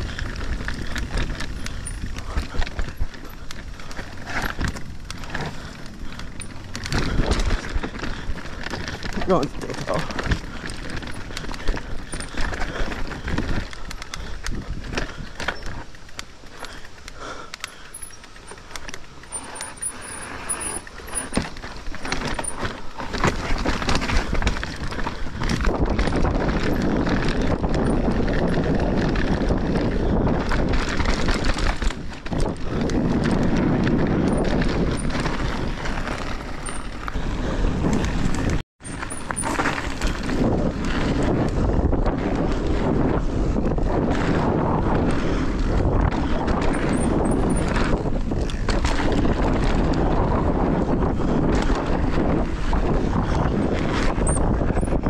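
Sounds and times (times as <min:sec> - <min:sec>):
bike rattling and clicking: 0:00.0 - 0:55.0
bike tyres rolling over dirt: 0:00.0 - 0:55.0
wind rumbling on microphone: 0:00.0 - 0:55.0.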